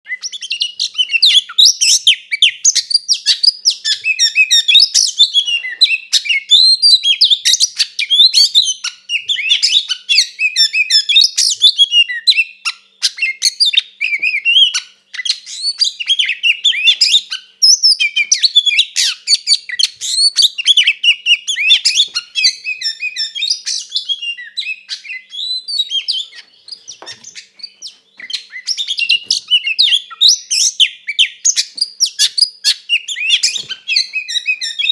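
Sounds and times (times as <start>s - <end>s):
songbird singing high whistles: 0.1s - 34.9s.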